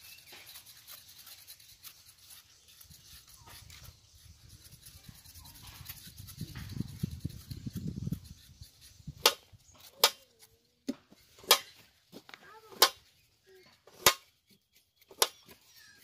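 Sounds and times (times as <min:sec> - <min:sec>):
knives scraping potato skins: 0:00.0 - 0:10.6, 0:13.6 - 0:16.0.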